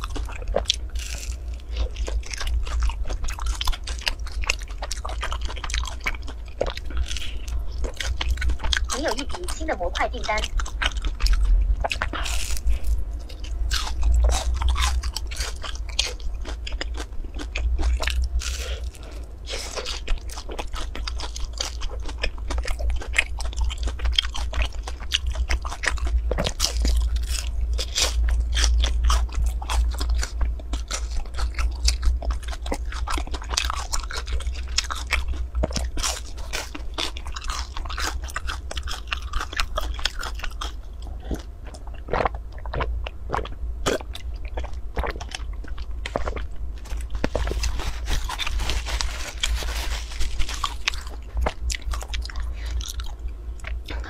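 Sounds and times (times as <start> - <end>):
crisp chewing crunches: 0.0 - 54.0
steady low hum: 0.0 - 54.0.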